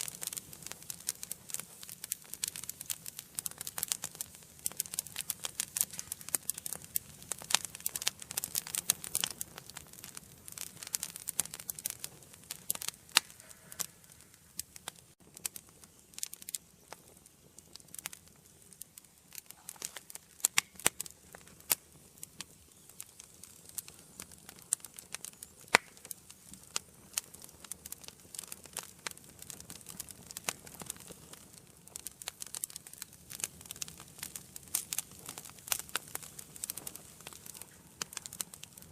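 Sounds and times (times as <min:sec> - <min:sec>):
hiss of flame: 0:00.0 - 0:16.5, 0:17.7 - 0:38.9
wood fire crackling: 0:00.0 - 0:38.9.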